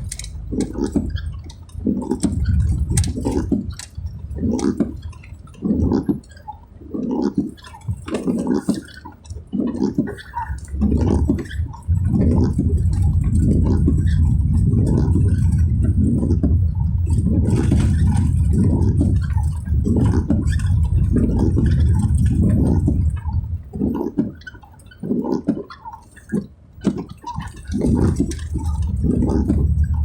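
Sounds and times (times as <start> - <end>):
road noise rumble: 0.0 - 30.0.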